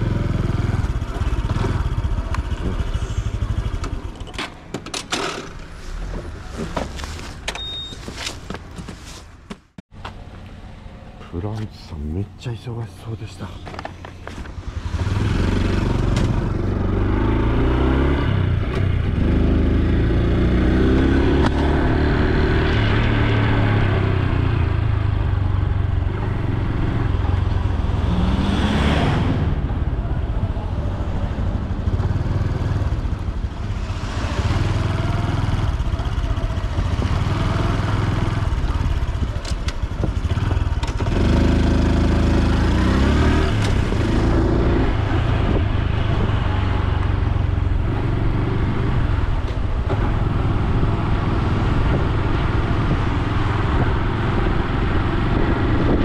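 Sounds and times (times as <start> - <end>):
motorcycle engine accelerating: 0.0 - 4.3, 14.3 - 56.0.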